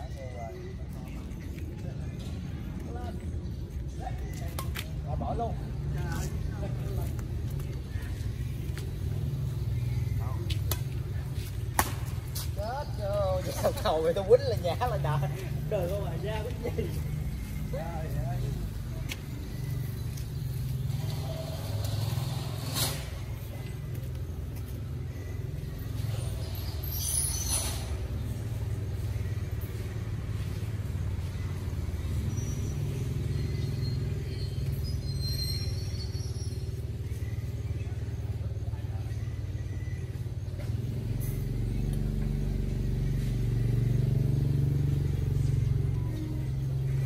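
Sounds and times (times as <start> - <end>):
street traffic hum: 0.0 - 47.0.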